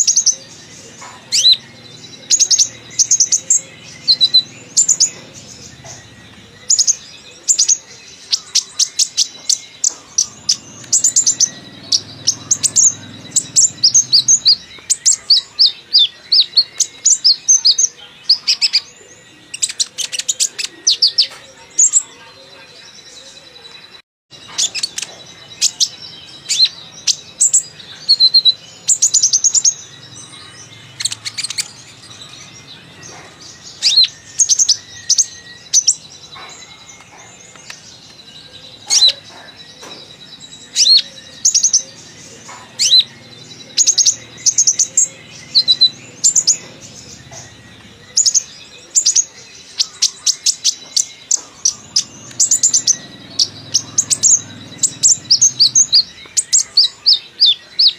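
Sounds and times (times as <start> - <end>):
bird chirping and trilling: 0.0 - 57.9.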